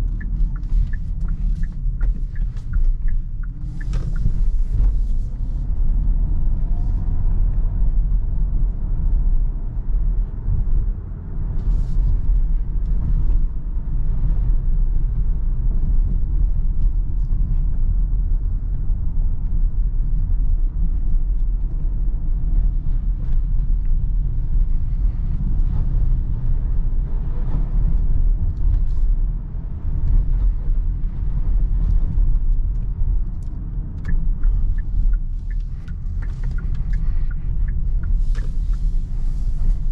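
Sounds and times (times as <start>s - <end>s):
car tyre and drivetrain rumble: 0.0s - 39.9s.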